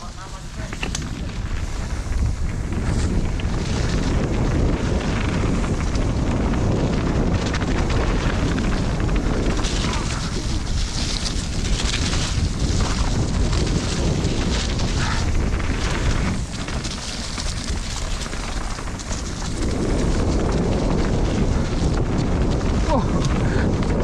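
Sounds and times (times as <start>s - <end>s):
bike rattling: 0.0s - 24.0s
bike tyres on trail: 0.0s - 24.0s
wind on microphone: 0.0s - 24.0s.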